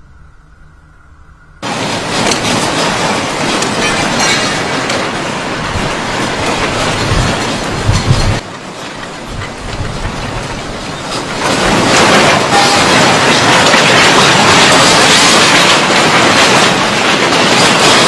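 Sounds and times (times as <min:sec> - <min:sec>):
earthquake rumbling and rattling: 0:01.6 - 0:18.0.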